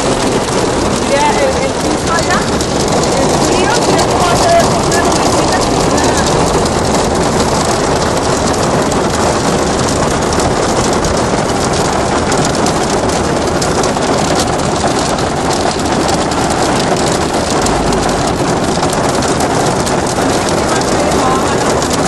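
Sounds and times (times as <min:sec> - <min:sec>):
hailstones clattering: 0:00.0 - 0:22.0.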